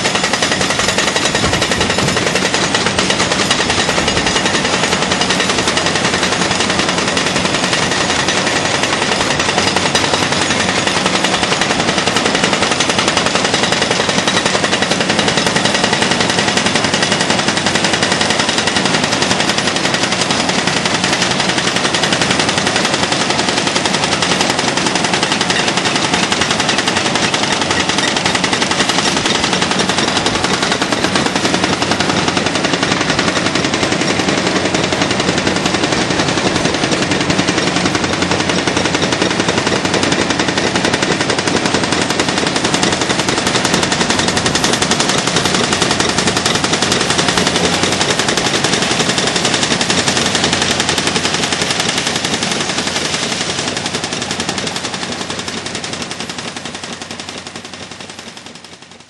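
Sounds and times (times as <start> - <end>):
hydraulic breakers hammering concrete: 0.0 - 59.0.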